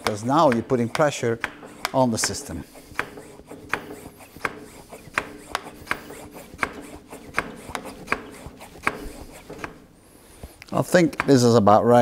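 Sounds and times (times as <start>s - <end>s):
hand pump clicking: 0.0s - 11.8s.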